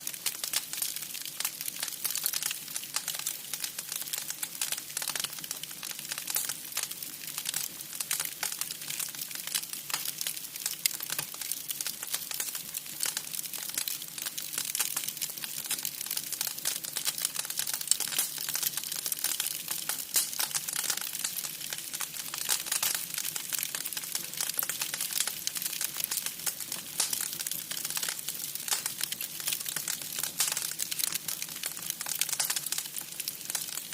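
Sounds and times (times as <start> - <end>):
firewood crackling in stove: 0.0 - 33.9.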